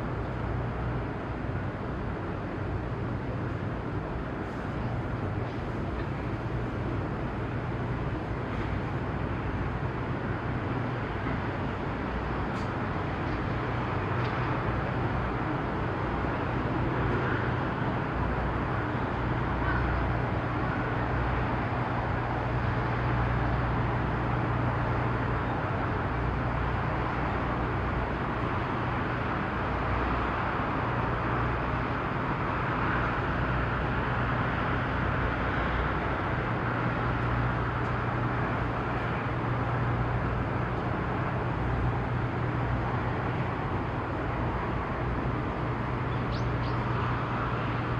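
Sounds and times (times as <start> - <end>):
low engine drone: 0.0 - 47.9
outdoor noise haze: 0.0 - 47.9.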